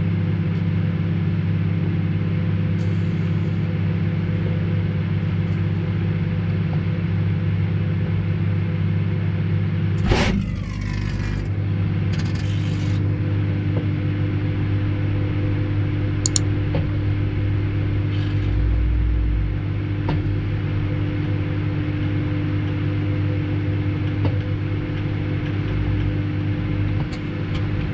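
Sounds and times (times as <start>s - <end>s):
microwave oven hum: 0.0s - 27.9s.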